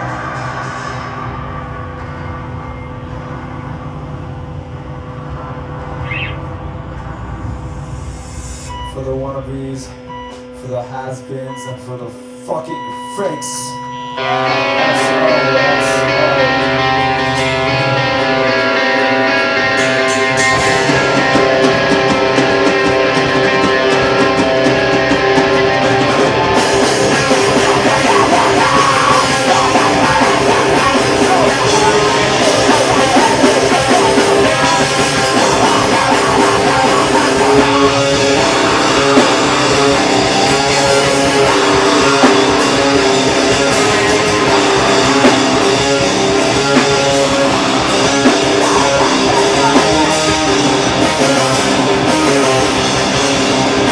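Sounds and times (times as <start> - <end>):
drums and cymbals: 0.0 - 4.9, 6.9 - 10.6, 13.8 - 53.9
heavy rock band playing: 0.0 - 6.0, 14.2 - 53.9
distorted electric guitars: 0.0 - 53.9.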